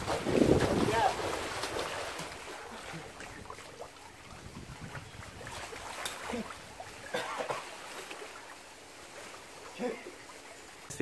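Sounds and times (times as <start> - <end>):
pool water sloshing and splashing: 0.0 - 11.0.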